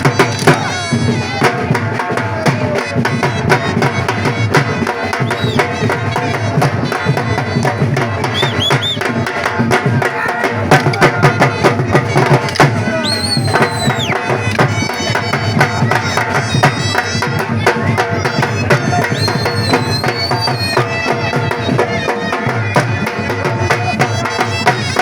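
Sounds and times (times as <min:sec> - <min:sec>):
fast dense drumming: 0:00.0 - 0:25.0
traditional music: 0:00.0 - 0:25.0.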